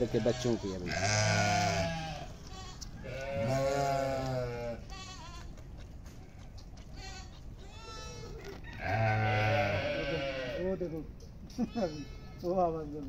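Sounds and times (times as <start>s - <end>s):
sheep and goats bleating: 0.0s - 13.0s.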